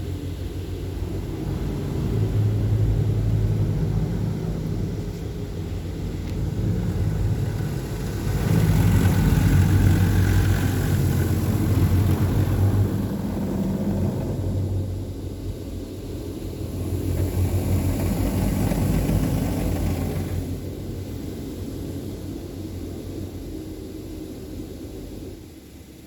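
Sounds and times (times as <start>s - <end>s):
car wash mechanical hum: 0.0s - 26.0s.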